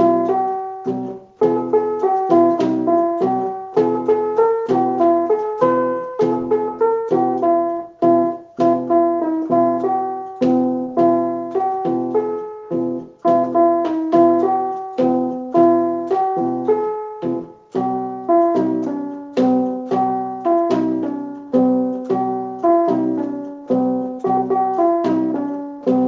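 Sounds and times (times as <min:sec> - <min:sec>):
keyboard playing bouncy chords: 0:00.0 - 0:26.0.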